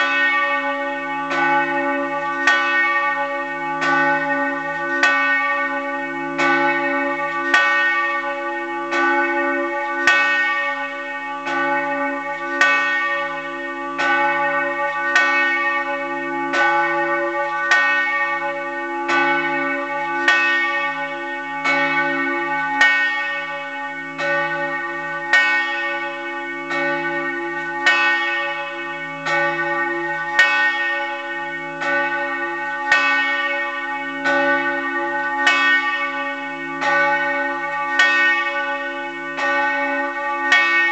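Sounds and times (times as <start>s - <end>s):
church bell tolling: 0.0s - 40.9s.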